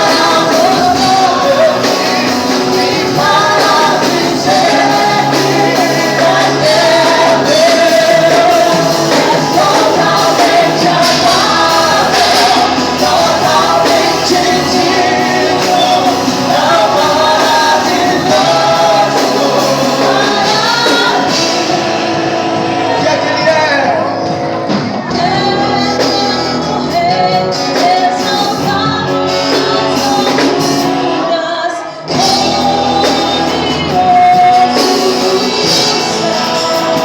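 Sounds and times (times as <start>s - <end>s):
band accompaniment: 0.0s - 37.0s
group singing a worship song: 0.0s - 37.0s.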